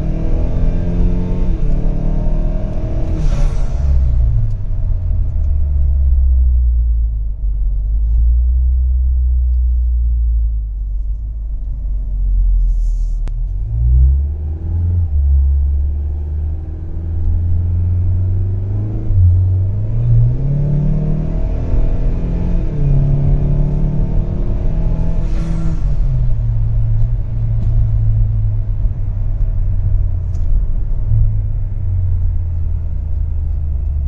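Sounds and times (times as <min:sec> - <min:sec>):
car engine rumbling in cabin: 0:00.0 - 0:34.0.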